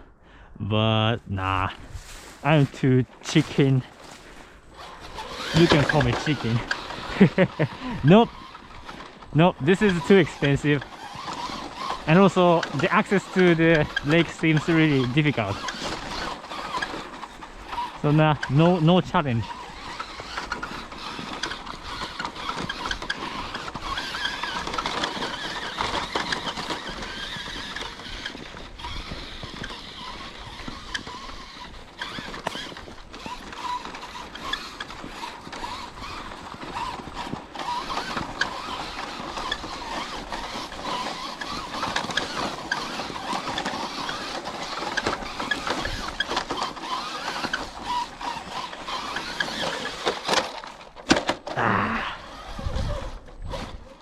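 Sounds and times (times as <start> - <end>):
tyres crackling in snow: 0.7 - 54.0
toy truck motor and gears: 0.8 - 54.0.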